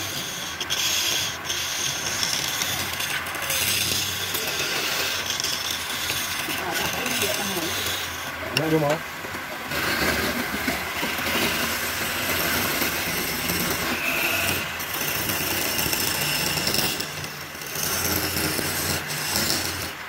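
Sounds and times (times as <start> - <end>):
chisel scraping spinning wood: 0.0 - 20.0
lathe motor hum: 0.0 - 20.0.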